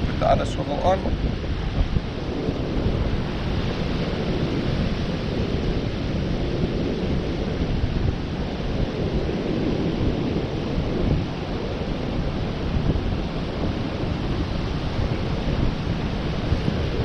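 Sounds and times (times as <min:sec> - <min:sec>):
strong wind on microphone: 0:00.0 - 0:17.0
surf breaking on beach: 0:00.0 - 0:17.0.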